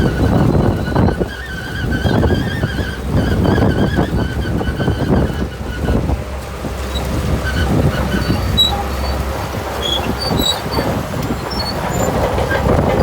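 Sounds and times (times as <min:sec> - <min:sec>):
bulldozer diesel engine drone: 0:00.0 - 0:13.0
steel tracks clanking: 0:00.0 - 0:13.0
tracks squeaking: 0:00.0 - 0:13.0.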